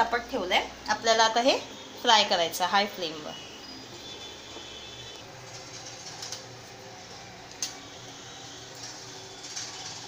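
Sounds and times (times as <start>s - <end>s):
low kitchen hum: 0.0s - 10.0s.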